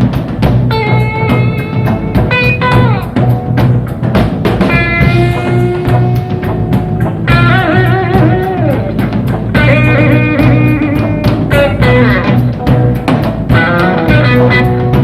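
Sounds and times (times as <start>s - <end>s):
bass guitar: 0.0s - 15.0s
electric guitar lead: 0.0s - 15.0s
steady drum beat: 0.0s - 15.0s.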